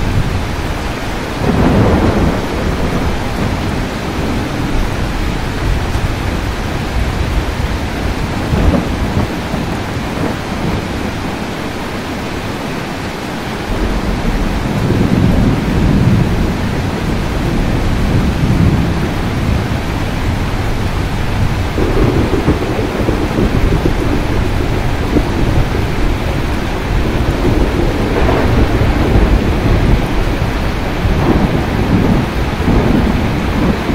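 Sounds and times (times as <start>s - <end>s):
rolling thunder: 0.0s - 12.4s, 13.5s - 33.9s
steady rain falling: 0.0s - 33.9s.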